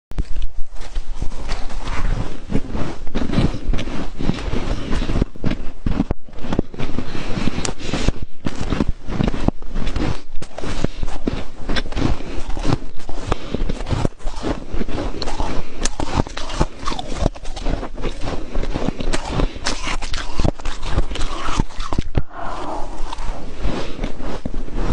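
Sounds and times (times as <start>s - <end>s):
frost being bitten and chewed: 3.1s - 24.6s.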